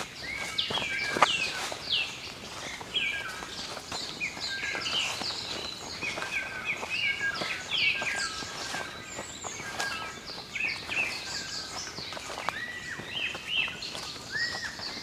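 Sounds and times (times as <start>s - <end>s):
small birds chirping and singing: 0.0s - 15.0s.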